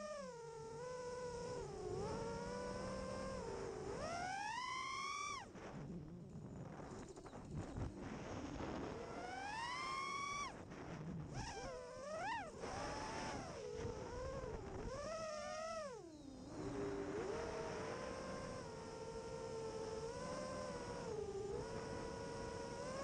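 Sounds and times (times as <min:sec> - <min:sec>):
quadcopter motors whining: 0:00.0 - 0:05.6, 0:07.0 - 0:10.6, 0:11.3 - 0:23.0.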